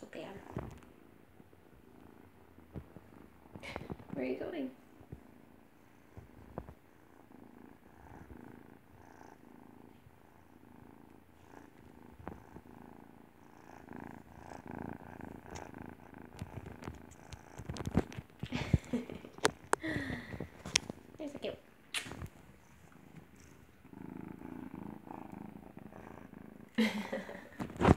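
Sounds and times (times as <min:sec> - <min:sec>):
kitten purring: 0:00.0 - 0:27.9.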